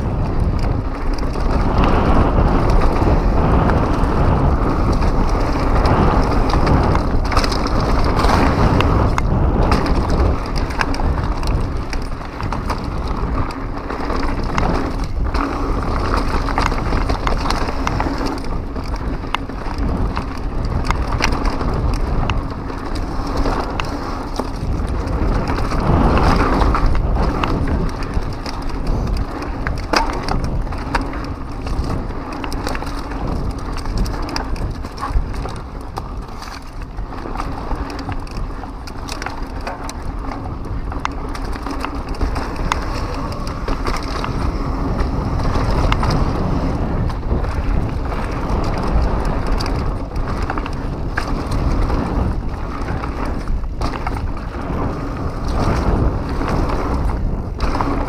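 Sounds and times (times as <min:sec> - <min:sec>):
bike tyres rumbling over dirt: 0:00.0 - 0:58.0.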